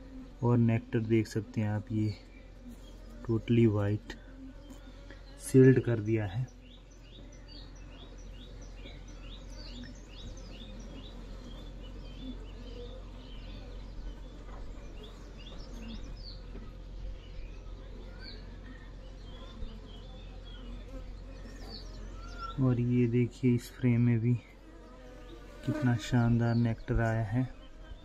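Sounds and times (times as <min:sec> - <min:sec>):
honeybees buzzing: 0:00.0 - 0:28.0
bird chirping: 0:02.0 - 0:28.0.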